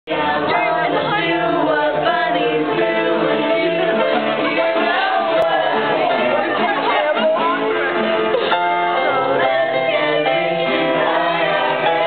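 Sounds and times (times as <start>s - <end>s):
group singing together: 0.1s - 12.0s.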